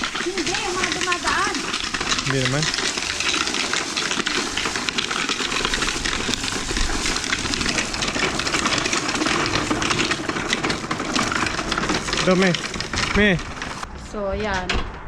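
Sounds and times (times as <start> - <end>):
rock salt scattering on driveway: 0.0 - 13.9.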